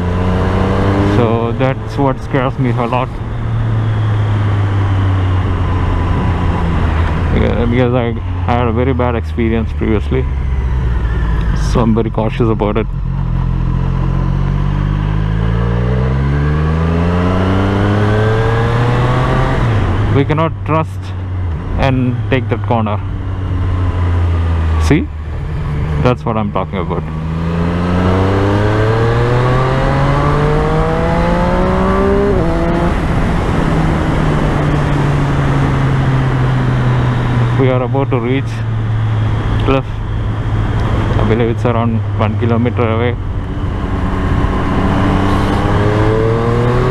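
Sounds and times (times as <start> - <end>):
motorcycle engine accelerating: 0.0 - 46.9
wind and road noise: 0.0 - 46.9.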